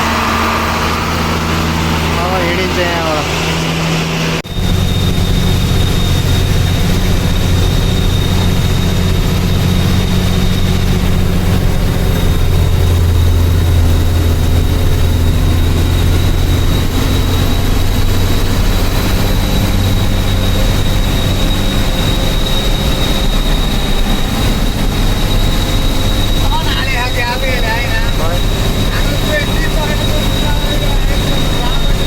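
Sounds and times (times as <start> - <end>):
diesel truck engine running: 0.0 - 32.0
thin high whine: 0.0 - 32.0.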